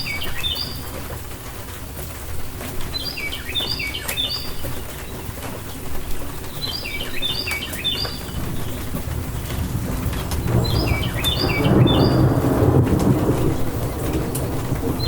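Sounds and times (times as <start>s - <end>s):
rainstorm rumble: 0.0s - 15.0s.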